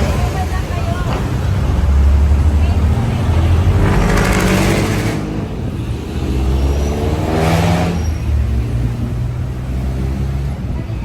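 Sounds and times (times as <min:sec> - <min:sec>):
engine revving: 0:00.0 - 0:10.7
passing traffic: 0:00.0 - 0:11.0
vehicle engines rumbling: 0:00.0 - 0:11.0.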